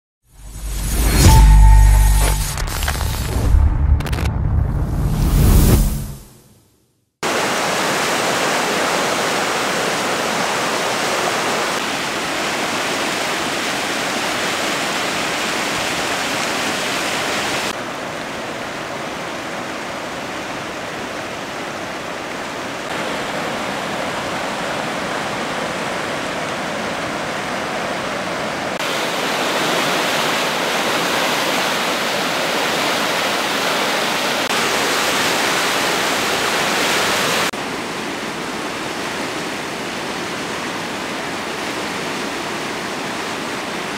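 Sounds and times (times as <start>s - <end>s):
water rushing over a weir: 7.2s - 43.9s.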